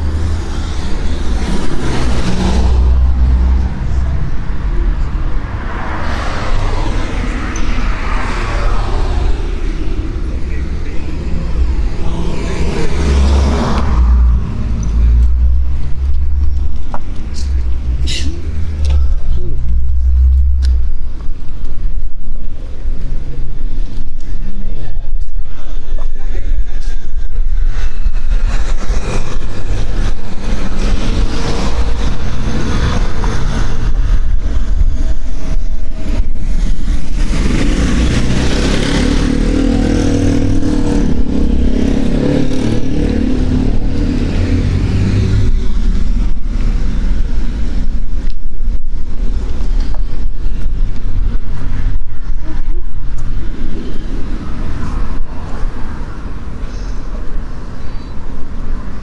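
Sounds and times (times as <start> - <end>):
vehicle passing close by: 0.0 - 21.1, 27.4 - 56.7
constant low rumble: 0.0 - 38.3, 40.4 - 59.0.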